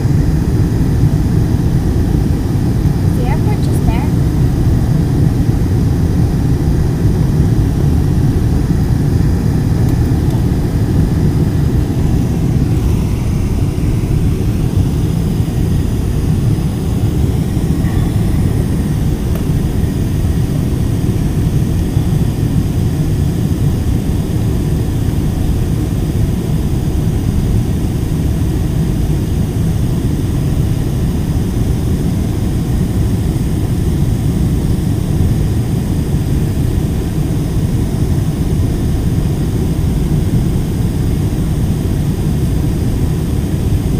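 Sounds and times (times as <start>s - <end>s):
jet engine and airflow rumble in cabin: 0.0s - 43.9s.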